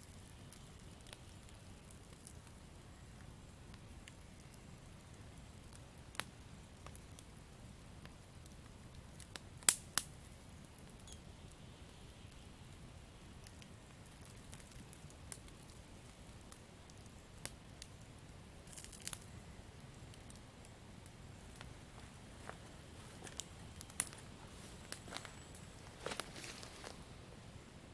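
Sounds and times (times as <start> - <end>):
campfire crackling: 0.0 - 27.9
faint low hiss: 0.0 - 27.9.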